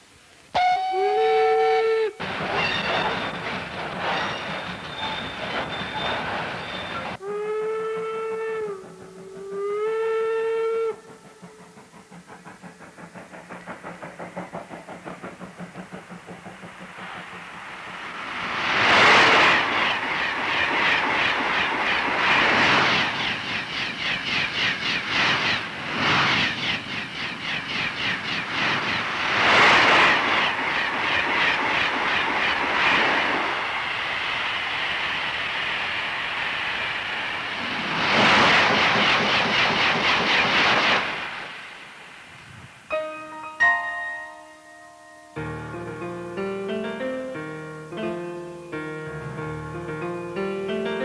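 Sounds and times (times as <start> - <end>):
train clattering on rails: 2.2 - 7.2, 8.0 - 51.0
loud hiss surges: 8.5 - 51.0.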